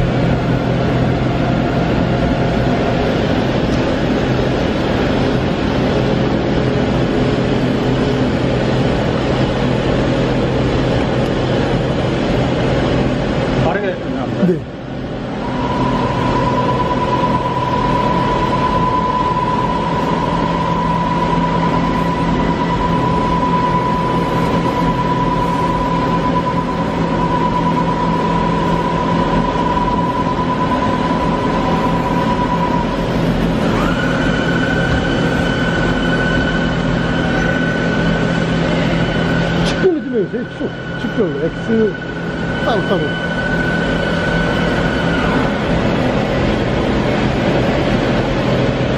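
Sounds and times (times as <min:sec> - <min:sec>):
high machine whine: 0:00.0 - 0:48.9
machine hum: 0:00.0 - 0:48.9.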